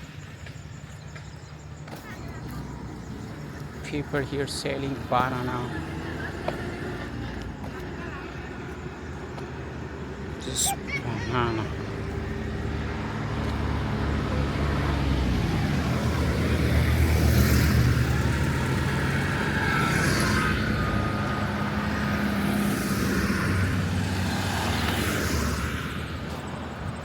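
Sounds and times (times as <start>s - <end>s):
vehicle engine running: 0.0s - 25.0s
traffic passing: 0.0s - 27.0s.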